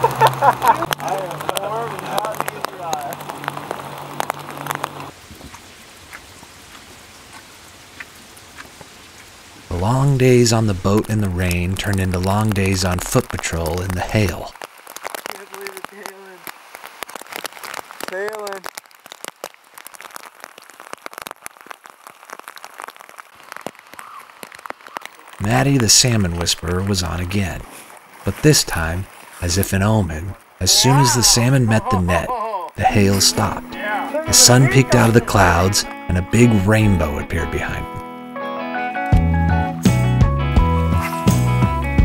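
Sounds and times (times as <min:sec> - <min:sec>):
hail pattering: 0:00.0 - 0:38.0
steady rain: 0:00.0 - 0:39.8.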